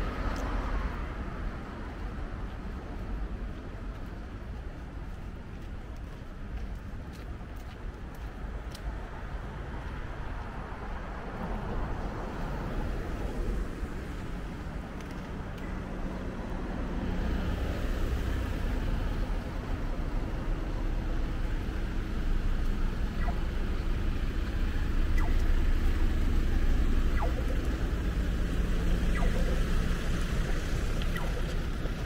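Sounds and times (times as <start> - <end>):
road traffic rumble: 0.0 - 32.0
vehicles passing: 0.0 - 32.0.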